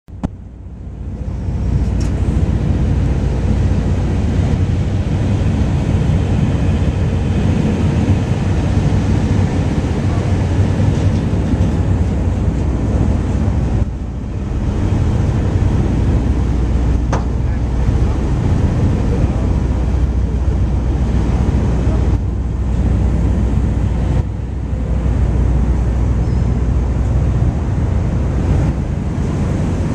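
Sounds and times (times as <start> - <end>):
ferry engine droning: 0.1 - 29.9
wind and water rushing: 0.1 - 29.9.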